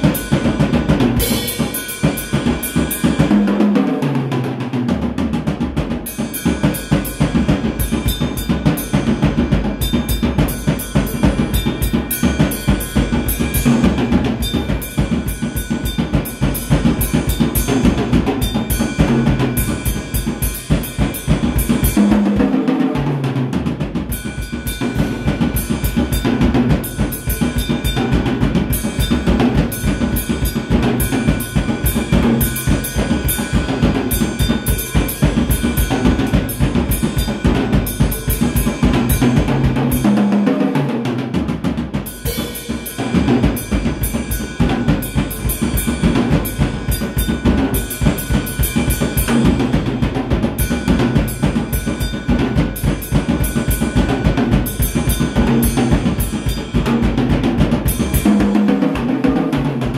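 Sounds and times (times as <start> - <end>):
cymbal wash: 0.0 - 3.8, 6.0 - 22.7, 23.9 - 40.5, 42.0 - 59.6
tom drum fill: 0.0 - 59.9.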